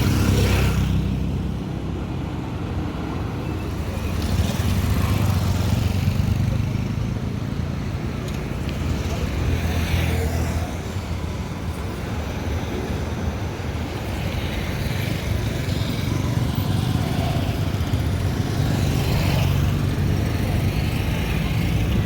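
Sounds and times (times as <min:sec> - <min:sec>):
road vehicles passing: 0:00.0 - 0:22.0.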